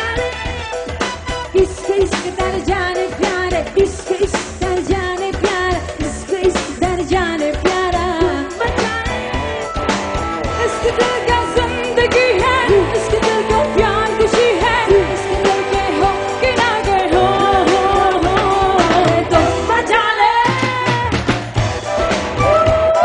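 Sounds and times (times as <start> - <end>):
bass line: 0.0 - 23.0
drum beats: 0.0 - 23.0.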